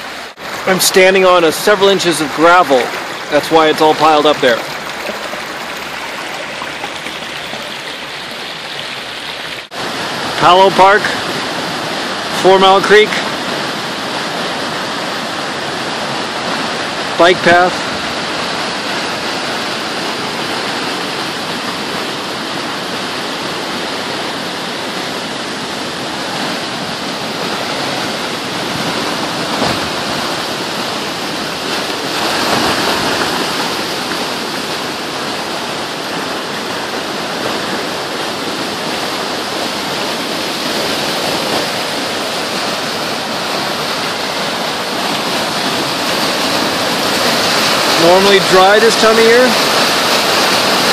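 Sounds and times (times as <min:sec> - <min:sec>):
floodwater rushing: 0:00.0 - 0:50.9.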